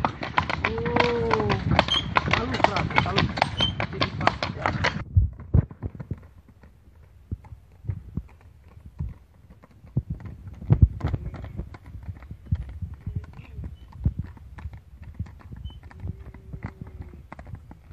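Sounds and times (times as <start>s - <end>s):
horse hooves on paved road: 0.0s - 17.9s.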